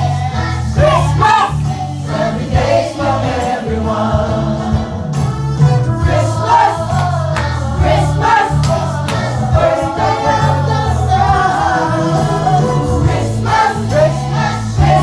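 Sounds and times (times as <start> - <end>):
bass line and beat: 0.0 - 15.0
choir singing: 0.0 - 15.0.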